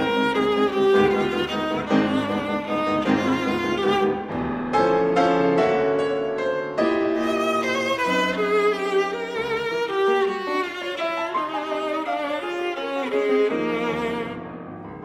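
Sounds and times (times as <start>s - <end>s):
bowed viola: 0.0s - 5.1s, 6.9s - 15.0s
piano accompaniment: 0.0s - 15.0s.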